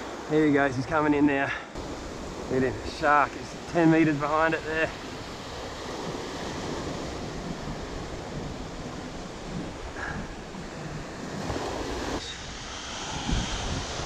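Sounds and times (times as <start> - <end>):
small waves washing over sand: 0.0 - 14.0.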